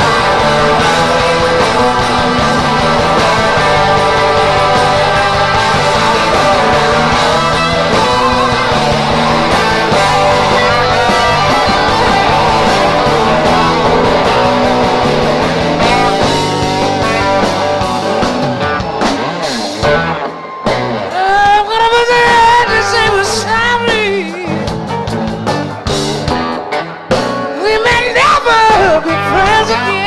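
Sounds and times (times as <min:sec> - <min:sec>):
lead guitar with bending notes: 0:00.0 - 0:30.0
rock band playing: 0:00.0 - 0:30.0.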